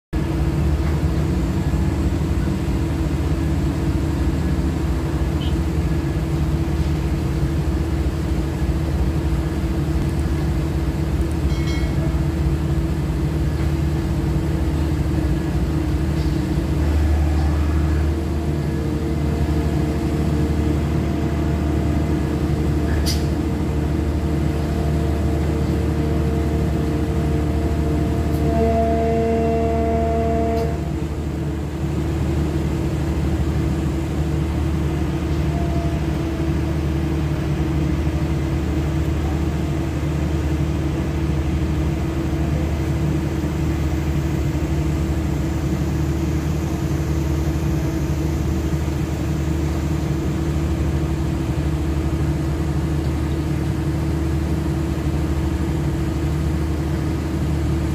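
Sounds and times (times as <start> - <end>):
diesel machinery droning: 0.2 - 57.9.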